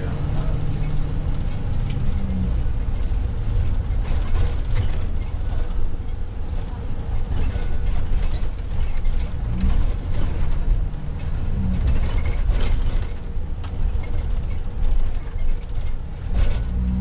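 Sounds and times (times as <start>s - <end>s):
vehicle road noise rumble: 0.0s - 17.0s.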